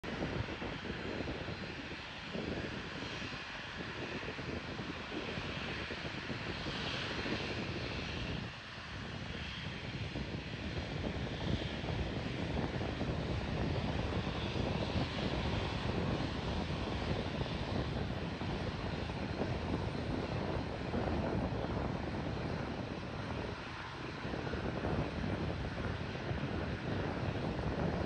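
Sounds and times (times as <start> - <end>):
airliner engines rumbling: 0.0 - 28.0.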